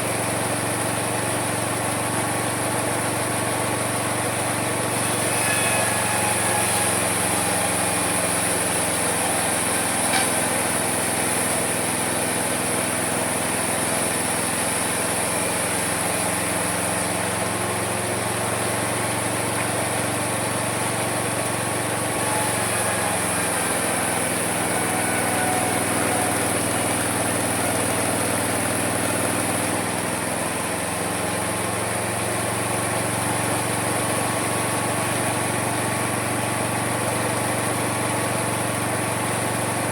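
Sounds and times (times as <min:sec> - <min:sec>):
small engine labouring: 0:00.0 - 0:39.9.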